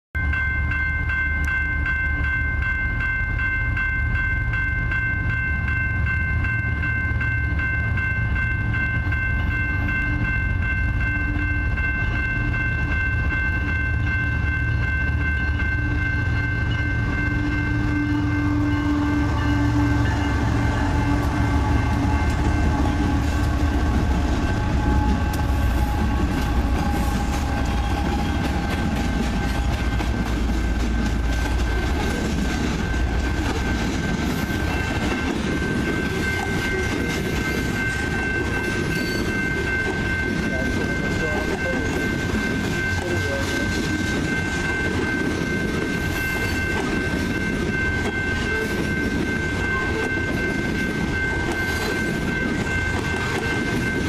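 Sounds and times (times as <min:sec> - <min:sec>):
crossing bell ringing rapidly: 0:00.2 - 0:54.0
freight train rumbling past: 0:00.2 - 0:54.0.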